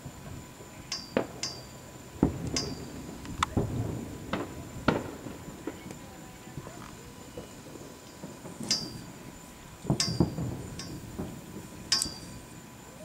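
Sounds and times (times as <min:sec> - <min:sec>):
fireworks cracking and banging: 0:00.0 - 0:13.0.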